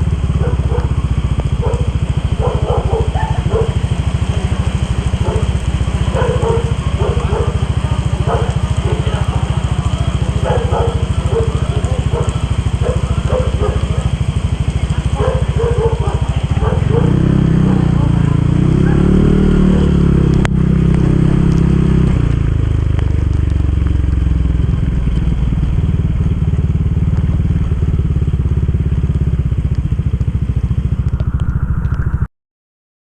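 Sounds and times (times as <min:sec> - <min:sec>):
motorcycle engine running: 0:00.0 - 0:32.3.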